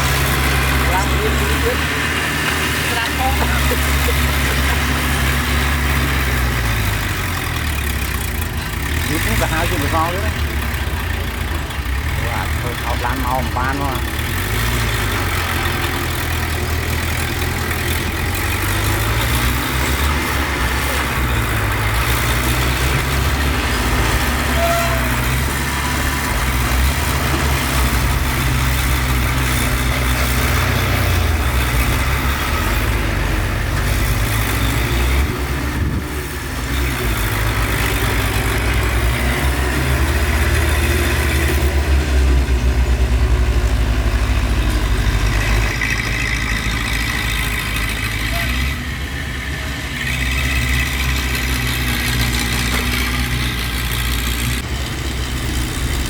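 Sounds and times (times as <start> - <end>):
heavy diesel machinery engines: 0.0 - 56.0.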